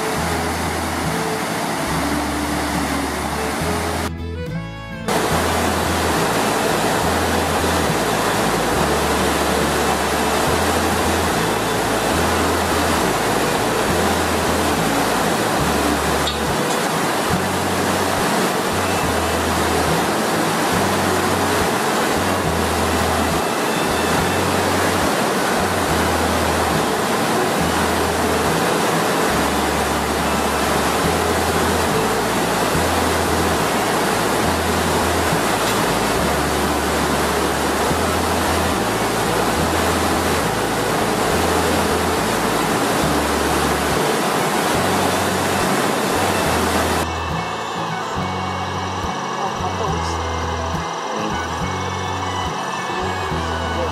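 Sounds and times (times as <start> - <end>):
background music bass: 0.0 - 53.9
river water rushing: 0.0 - 53.9.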